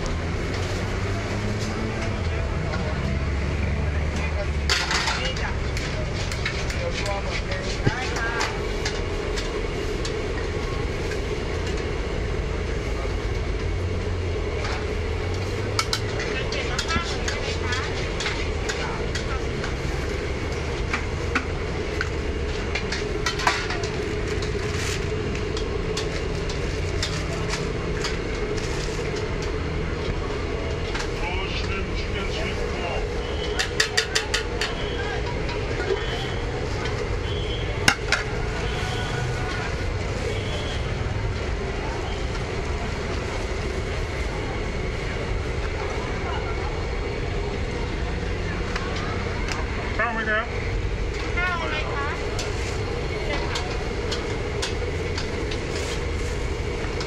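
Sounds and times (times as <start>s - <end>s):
crowd chatter: 0.0s - 57.0s
gas burner rushing: 0.0s - 57.0s.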